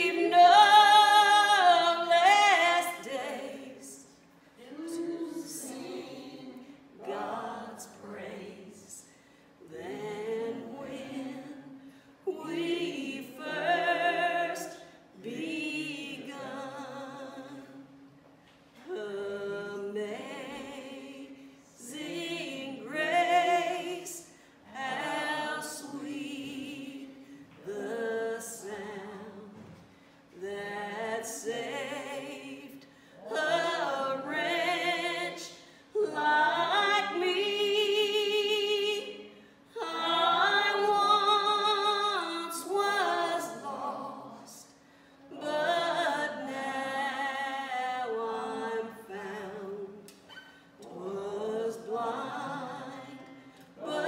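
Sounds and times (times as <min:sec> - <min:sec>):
woman singing a hymn: 0:00.0 - 0:17.9, 0:18.8 - 0:29.7, 0:30.3 - 0:54.0.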